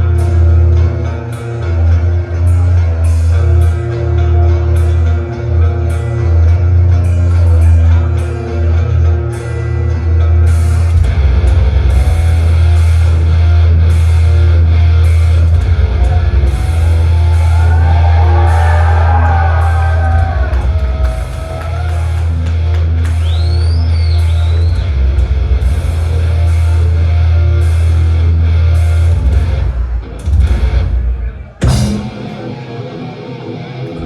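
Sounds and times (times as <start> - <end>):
metal band playing live: 0.0 - 23.2, 24.4 - 34.0.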